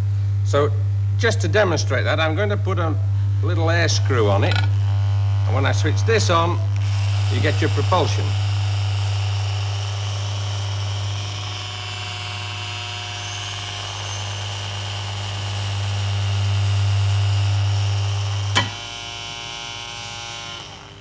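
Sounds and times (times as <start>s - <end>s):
deep electrical hum: 0.0s - 21.0s
small electric motor whirring: 3.5s - 21.0s.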